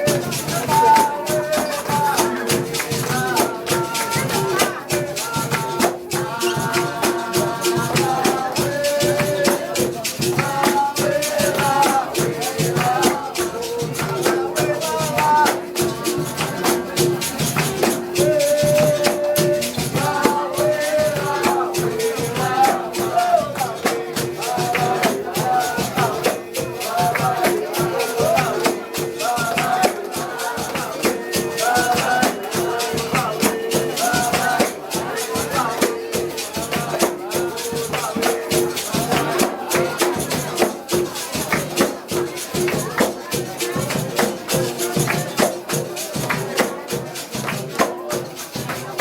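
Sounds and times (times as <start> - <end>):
rhythmic percussion: 0.0 - 49.0
shaken jingling: 0.0 - 49.0
voices singing: 0.0 - 49.0.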